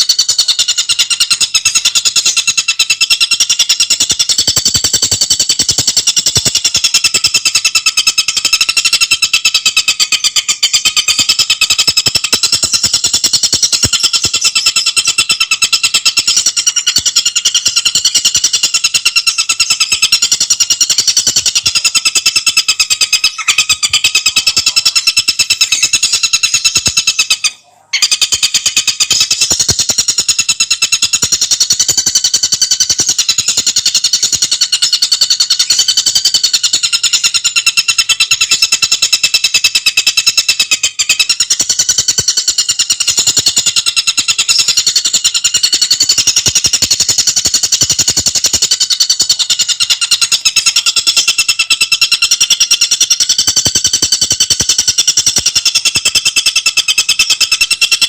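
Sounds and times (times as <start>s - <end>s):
bird trilling song: 0.0s - 58.0s.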